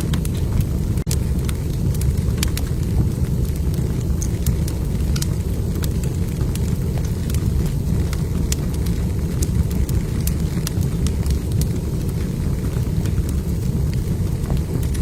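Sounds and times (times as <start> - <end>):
fire rumbling: 0.0 - 15.0
logs crackling and popping: 0.0 - 15.0.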